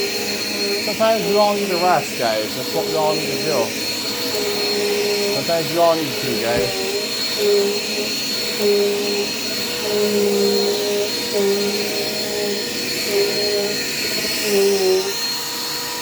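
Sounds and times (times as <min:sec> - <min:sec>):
vacuum cleaner whine: 0:00.0 - 0:16.0.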